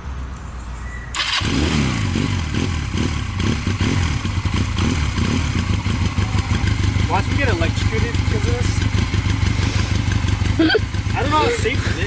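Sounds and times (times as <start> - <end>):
motorcycle engine starting and running: 1.1 - 12.0.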